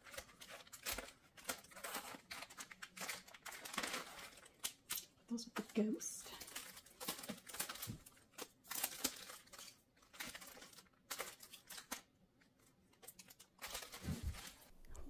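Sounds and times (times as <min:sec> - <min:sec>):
plastic sleeves rustling: 0:00.0 - 0:15.0.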